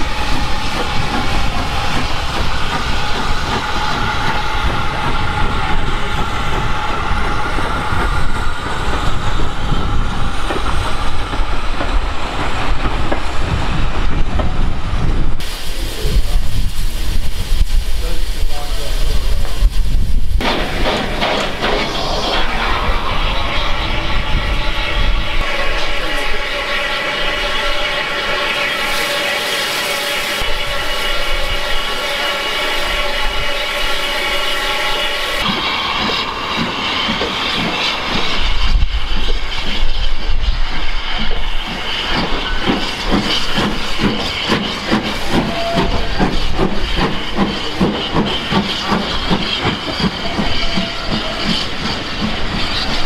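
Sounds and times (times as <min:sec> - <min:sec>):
train carriages rolling past: 0:00.0 - 0:16.1, 0:20.4 - 0:53.0
steam locomotive hissing: 0:00.0 - 0:53.0.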